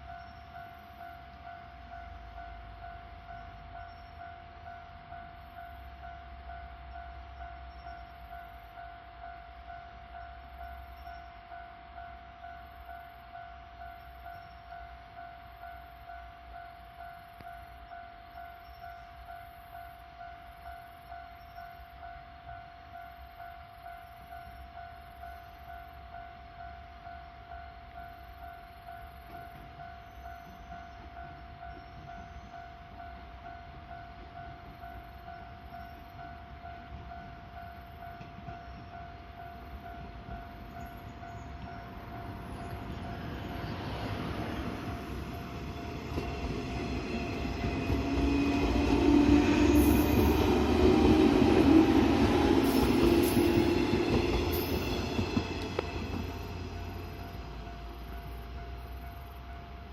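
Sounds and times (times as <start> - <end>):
level crossing warning bell: 0.0 - 59.9
train passing: 0.0 - 59.9.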